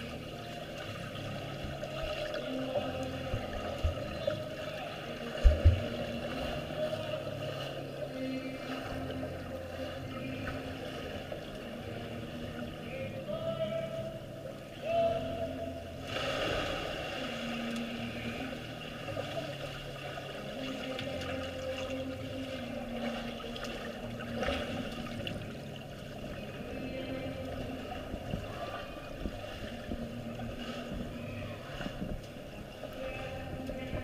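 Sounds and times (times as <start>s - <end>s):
low hum: 0.0s - 34.0s
muffled underwater water noise: 0.0s - 34.0s.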